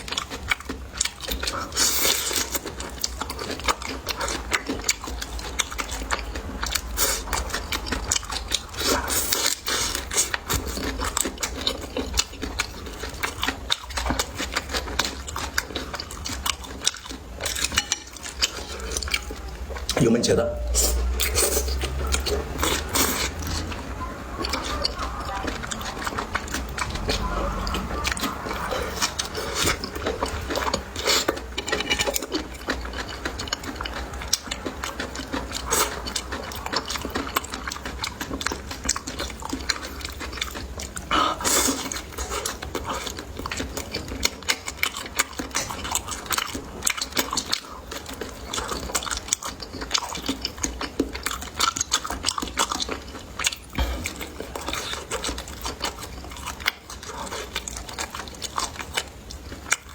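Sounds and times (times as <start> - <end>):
low steady hum: 0.0 - 45.2, 53.6 - 59.9
chewing and crunching food: 0.0 - 59.9.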